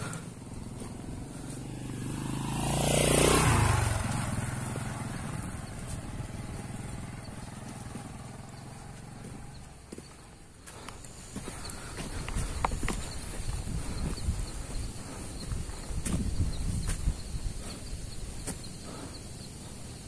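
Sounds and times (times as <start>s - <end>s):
motorcycle passing by: 0.0s - 20.0s.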